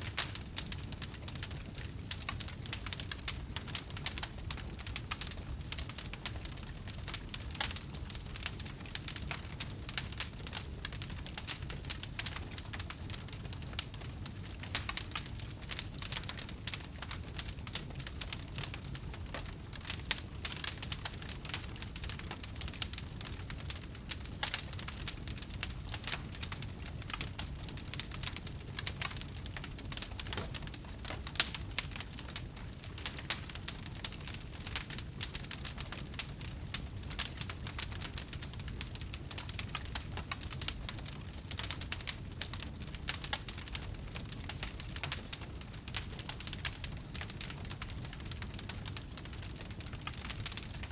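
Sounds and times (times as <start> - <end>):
bonfire crackling and popping: 0.0 - 50.9
low fire rumble: 0.0 - 50.9.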